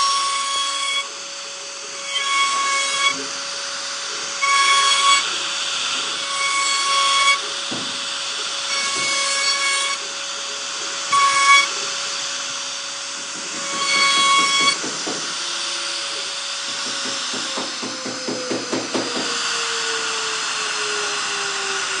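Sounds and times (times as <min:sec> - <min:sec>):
cnc router spindle whine: 0:00.0 - 0:22.0.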